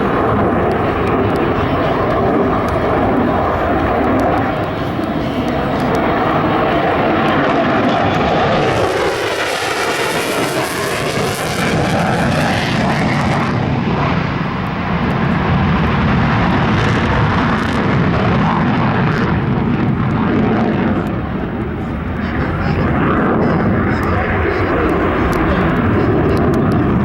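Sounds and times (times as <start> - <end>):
jet fighter flying past: 0.0 - 27.0.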